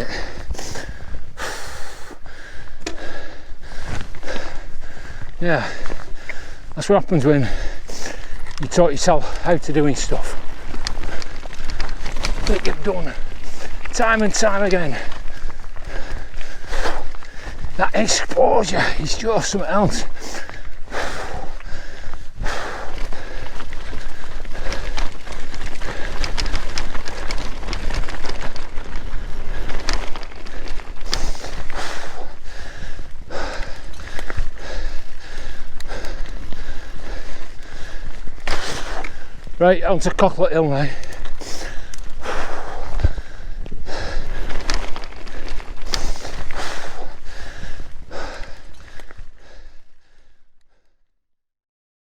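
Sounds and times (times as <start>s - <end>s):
person breathing hard: 0.0s - 39.6s, 40.7s - 51.1s
bike rattling clicks and knocks: 0.0s - 50.3s
wind and riding noise: 0.0s - 50.7s
bike tyres on dirt: 0.0s - 50.9s.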